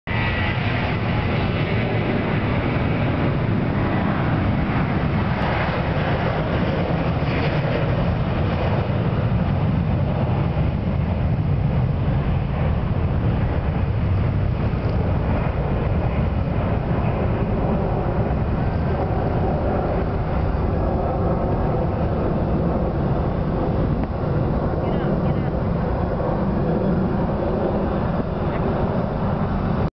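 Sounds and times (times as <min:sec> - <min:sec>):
jet engines rumbling: 0:00.1 - 0:29.9.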